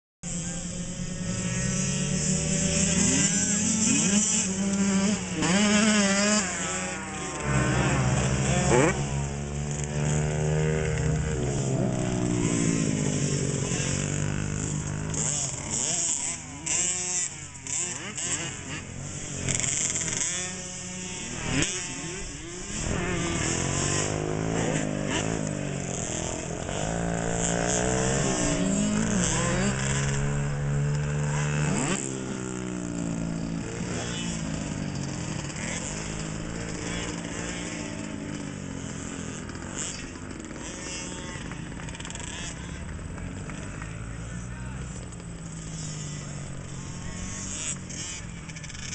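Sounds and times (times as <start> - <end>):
motocross bike engines revving: 0.2 - 48.9.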